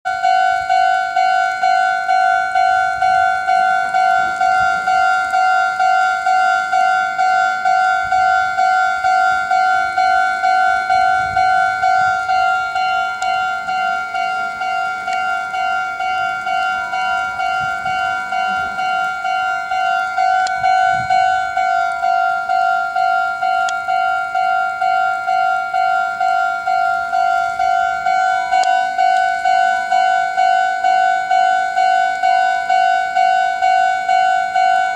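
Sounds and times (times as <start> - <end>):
level crossing alarm bell: 0.0 - 34.9.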